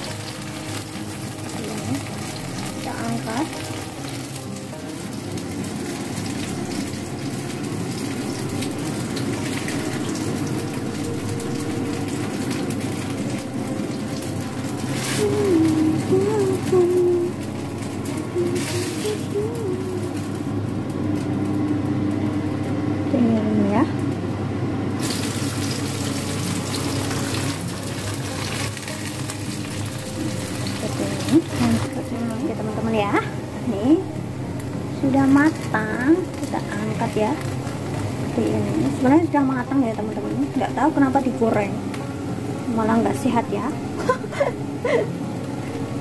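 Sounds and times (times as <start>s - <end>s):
oil sizzling in frying pan: 0.0s - 22.7s, 25.0s - 46.0s.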